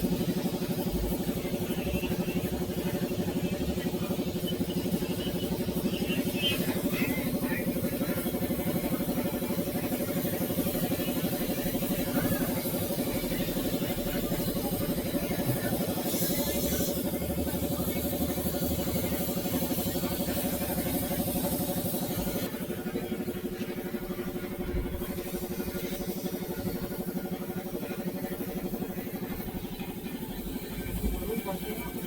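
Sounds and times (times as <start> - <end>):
machine running with pulsing hum: 0.0 - 32.0.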